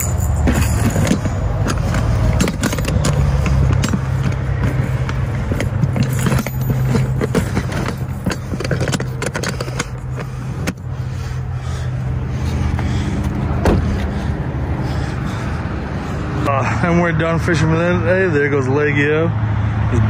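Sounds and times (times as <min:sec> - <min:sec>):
low vehicle engine hum: 0:00.0 - 0:20.0.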